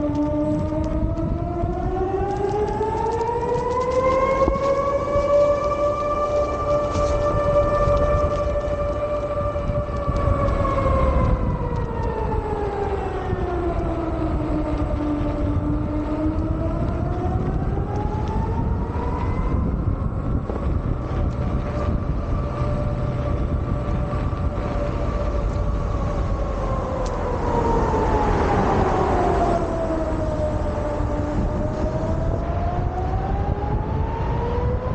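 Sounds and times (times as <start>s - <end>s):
low rumble: 0.0s - 34.9s
siren steady tone: 0.0s - 34.9s
warning siren rising and falling: 0.0s - 34.9s.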